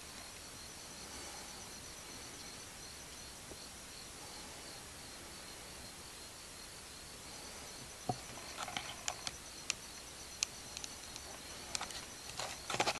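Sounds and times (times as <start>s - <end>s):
insects chirping: 0.0s - 12.9s.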